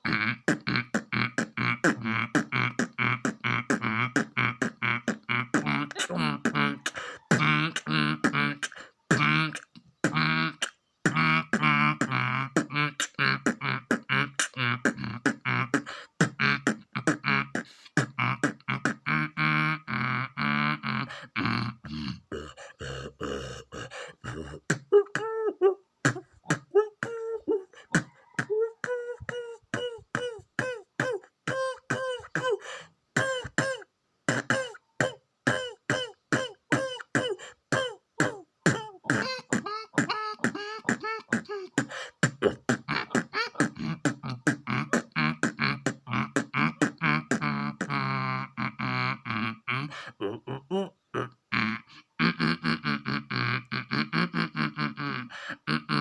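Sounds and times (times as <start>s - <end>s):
person beatboxing: 0.0s - 56.0s.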